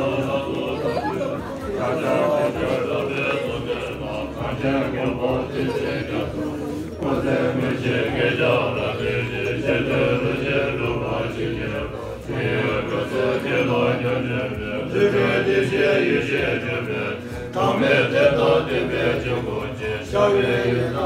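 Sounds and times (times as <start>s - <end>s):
monks chanting prayers: 0.0s - 21.0s.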